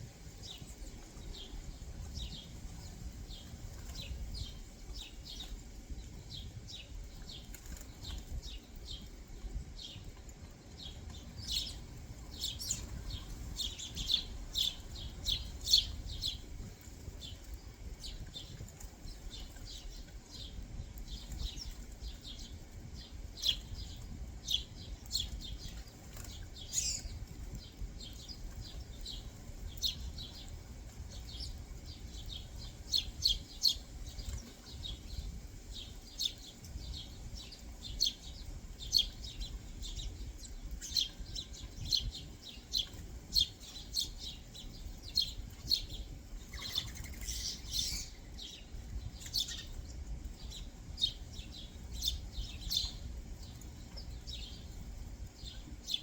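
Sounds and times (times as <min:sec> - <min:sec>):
low steady rumble: 0:00.0 - 0:56.0
songbirds chirping: 0:00.0 - 0:56.0.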